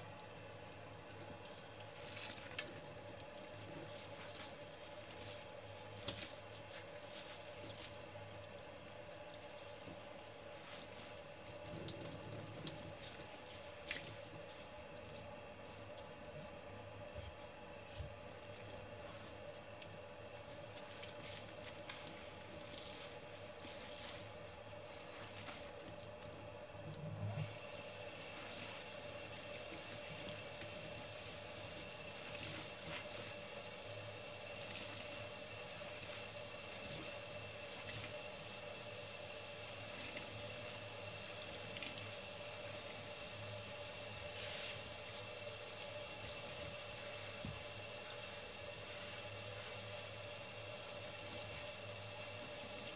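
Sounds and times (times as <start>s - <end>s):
wet sponge squishing: 1.0s - 43.1s, 43.8s - 52.9s.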